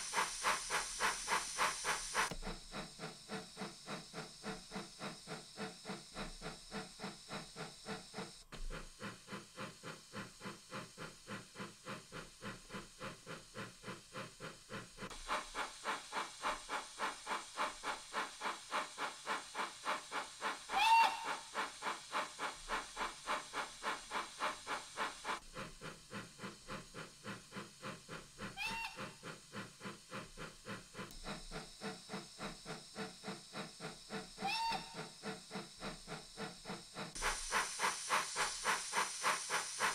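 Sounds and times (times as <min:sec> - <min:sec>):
model steam locomotive chuffing: 0:00.0 - 0:39.9.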